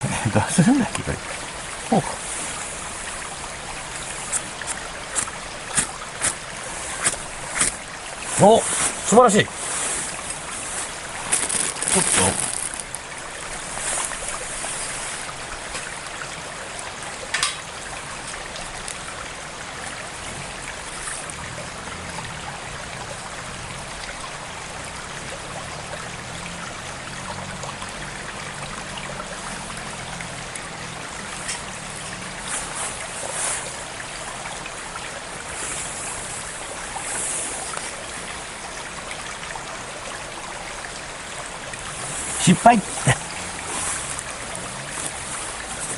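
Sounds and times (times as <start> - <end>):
flowing stream: 0.0 - 45.9.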